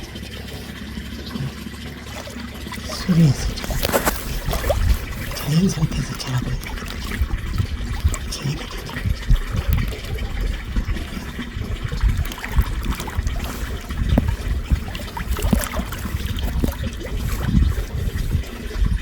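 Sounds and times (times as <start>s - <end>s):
water trickling in a ditch: 0.0s - 19.0s.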